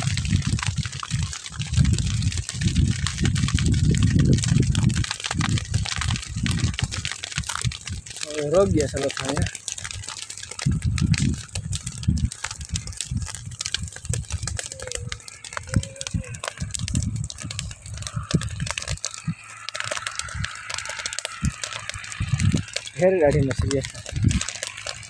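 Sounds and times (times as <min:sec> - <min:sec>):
fire crackling and popping: 0:00.0 - 0:25.0
low uneven rumble: 0:00.0 - 0:25.0.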